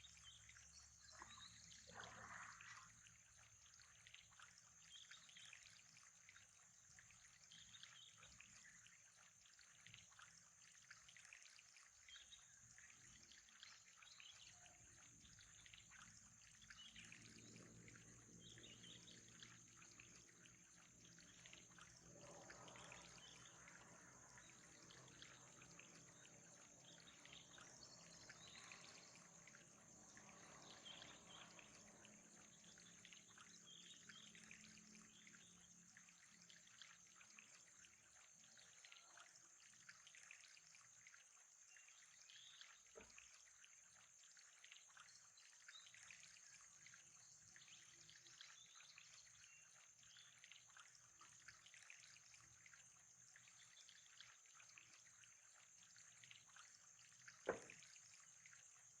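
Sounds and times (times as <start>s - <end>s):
faint trickling water: 0.0s - 59.0s.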